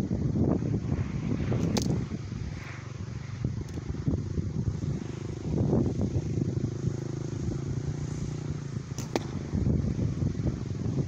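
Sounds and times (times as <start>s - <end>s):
dirt bike engine running: 0.1s - 11.0s.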